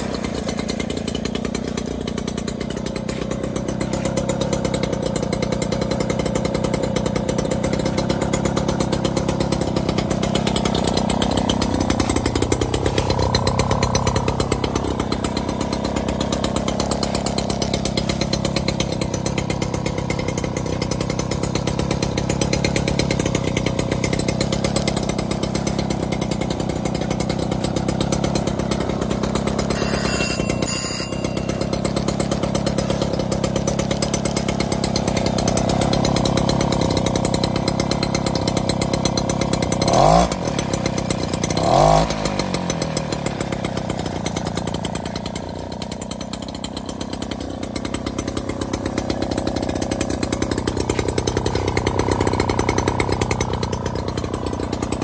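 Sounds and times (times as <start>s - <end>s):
two-stroke moped engine running: 0.0s - 55.0s.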